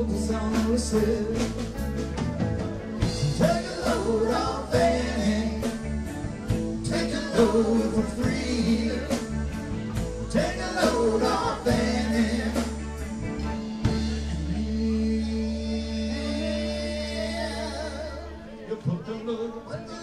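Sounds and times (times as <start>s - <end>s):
person singing: 0.0s - 2.0s, 3.1s - 6.2s, 6.8s - 13.2s, 13.9s - 20.0s
live rock band playing: 0.0s - 20.0s.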